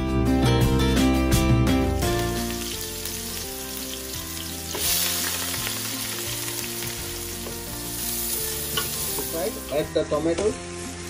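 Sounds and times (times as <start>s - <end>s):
hot oil sizzling: 1.8s - 11.0s.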